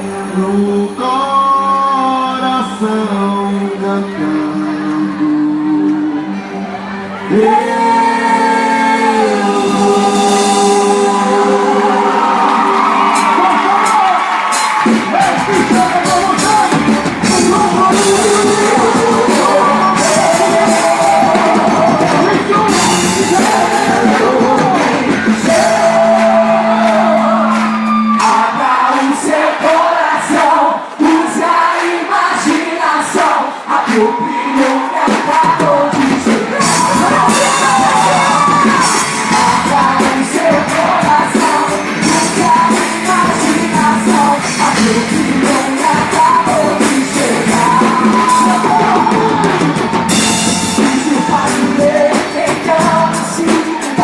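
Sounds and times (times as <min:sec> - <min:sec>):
loud music with singing: 0:00.0 - 0:54.0
crowd shouting and whooping: 0:03.2 - 0:54.0.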